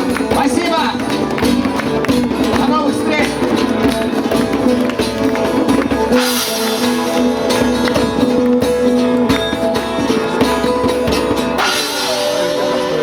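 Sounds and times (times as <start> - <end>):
guitar chords: 0.0 - 13.0
percussion strikes: 0.0 - 13.0.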